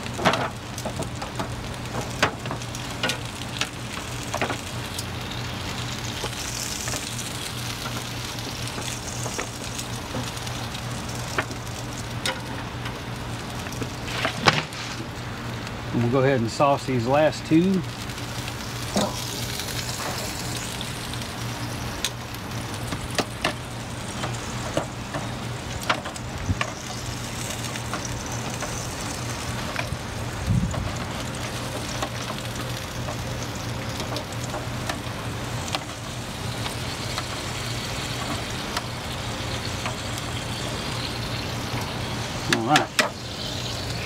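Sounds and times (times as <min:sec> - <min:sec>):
grill sizzling and crackling: 0:00.0 - 0:44.0.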